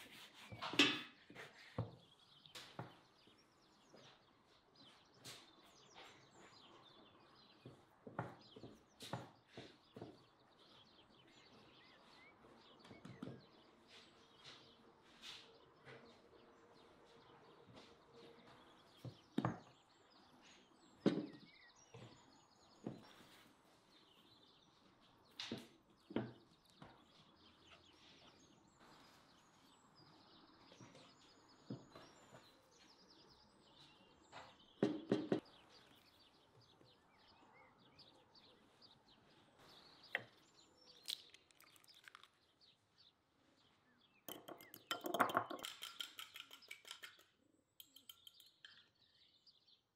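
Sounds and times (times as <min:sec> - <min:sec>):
faint bird chirps: 0:00.0 - 0:49.9.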